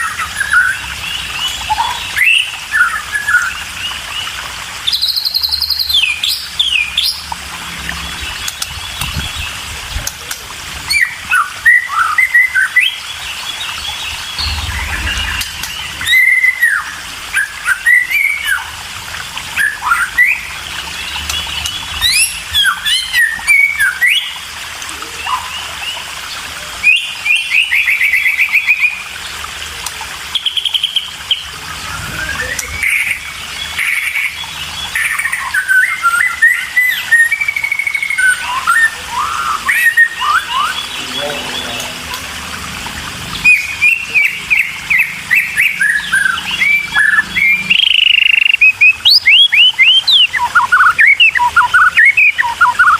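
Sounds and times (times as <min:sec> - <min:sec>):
birds chirping and whistling: 0:00.0 - 0:29.3, 0:30.3 - 0:42.4, 0:43.2 - 0:52.9.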